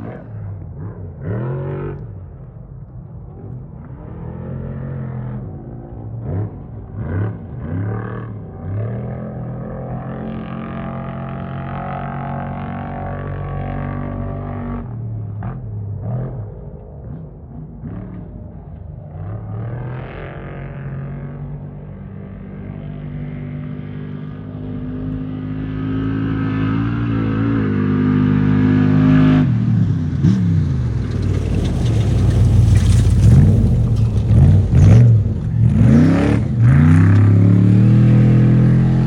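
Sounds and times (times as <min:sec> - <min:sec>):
off-road vehicle engine revving: 0:00.0 - 0:02.2, 0:03.4 - 0:39.0.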